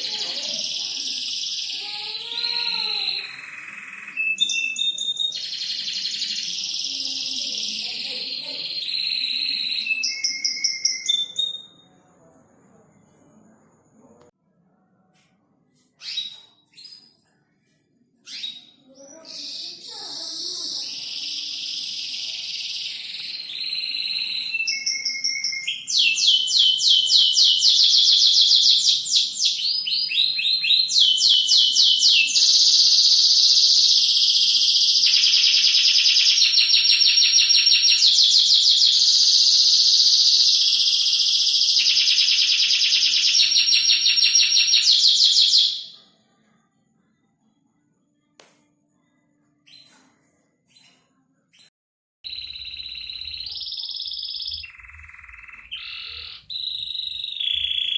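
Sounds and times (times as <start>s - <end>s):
canary singing trills: 0.0s - 12.0s, 18.2s - 46.2s, 50.8s - 57.9s.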